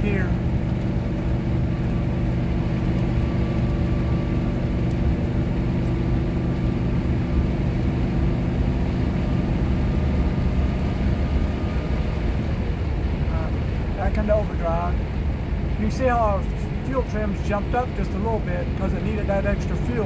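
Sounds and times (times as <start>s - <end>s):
engine running at raised revs: 0.0s - 20.0s
road and wind noise: 0.0s - 20.0s.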